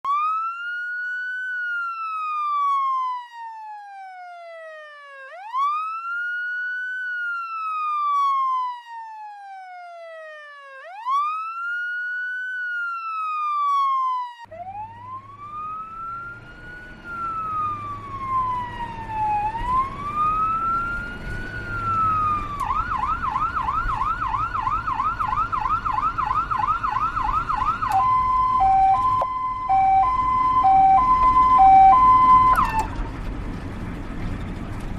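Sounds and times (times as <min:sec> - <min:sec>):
ambulance siren: 0:00.0 - 0:33.3.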